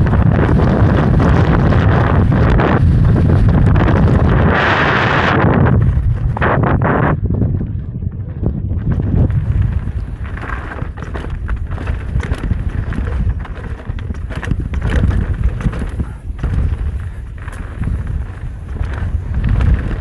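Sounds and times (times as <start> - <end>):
bike knocking and rattling: 0.0 - 4.5, 5.6 - 20.0
wind buffeting microphone: 0.0 - 20.0.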